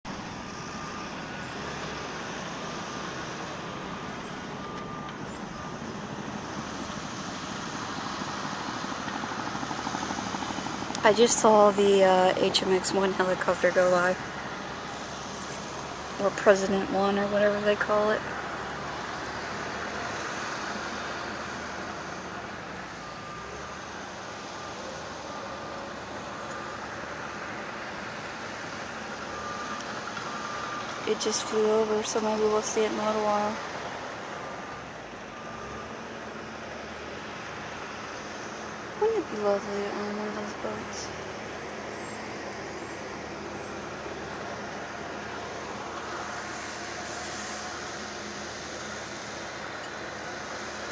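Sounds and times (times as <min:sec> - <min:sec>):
distant helicopter rumble: 0:00.0 - 0:50.9
helicopter rotor beat: 0:00.1 - 0:50.9.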